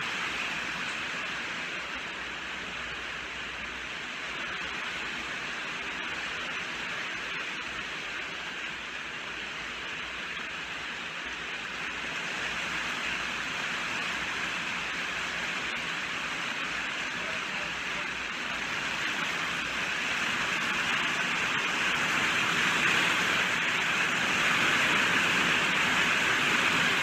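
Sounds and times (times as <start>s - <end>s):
heavy rain hissing: 0.0s - 27.0s.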